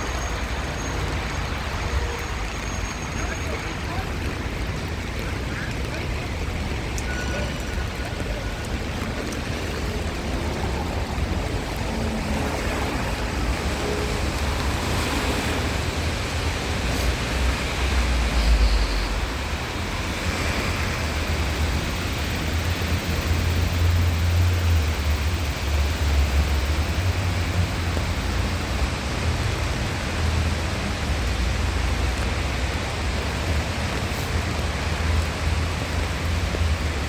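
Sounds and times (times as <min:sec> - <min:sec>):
rain falling on street: 0:00.0 - 0:37.0
traffic rumble: 0:00.0 - 0:37.0.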